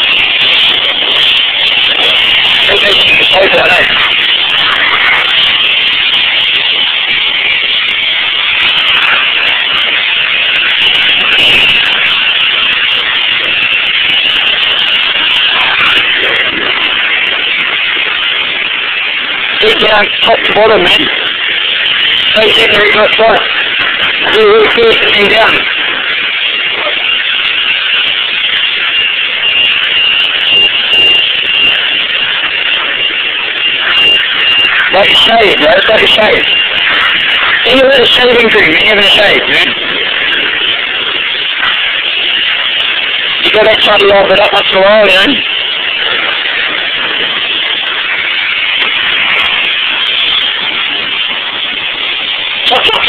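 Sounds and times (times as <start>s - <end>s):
pressure washer spraying water: 0.0s - 53.0s
thin high whine: 0.0s - 53.0s.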